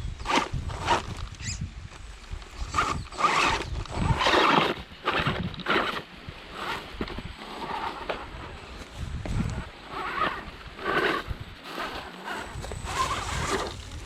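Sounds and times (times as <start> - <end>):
wheels crunching on rocks: 0.0 - 14.0
electric toy car motor: 0.2 - 1.6, 2.5 - 8.5, 9.8 - 14.0.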